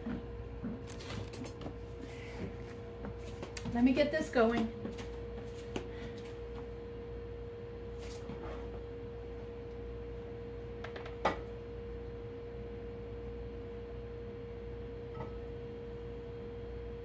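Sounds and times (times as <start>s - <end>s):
steady single-tone hum: 0.0s - 17.0s.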